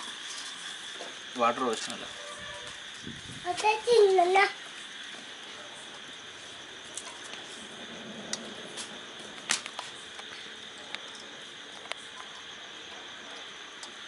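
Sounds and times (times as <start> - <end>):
crackling wood fire: 0.0 - 14.0.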